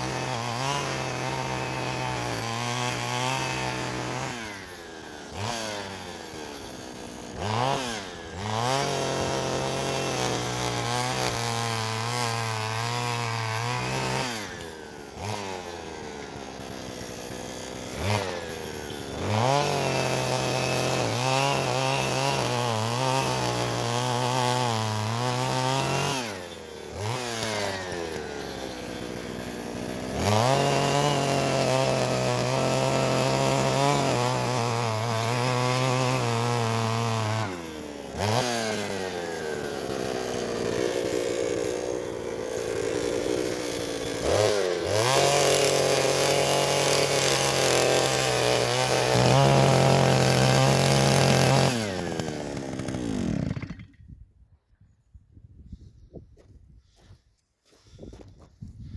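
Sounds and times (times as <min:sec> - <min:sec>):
two-stroke earth auger revving: 0:00.0 - 0:54.1.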